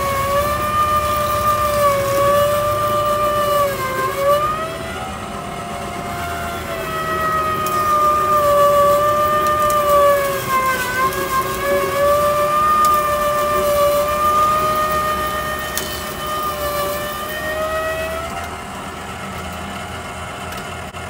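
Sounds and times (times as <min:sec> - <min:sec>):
juicer motor whine: 0:00.0 - 0:21.0.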